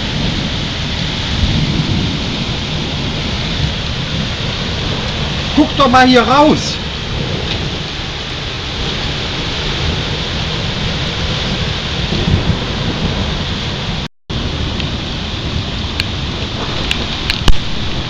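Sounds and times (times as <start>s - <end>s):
heavy rain pouring: 0.0s - 18.0s
low thunder rumble: 0.0s - 18.0s.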